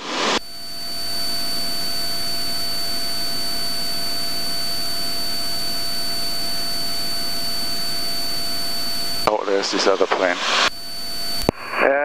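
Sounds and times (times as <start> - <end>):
airplane engine and propeller drone: 0.0 - 12.0
high-pitched whine: 0.0 - 12.0.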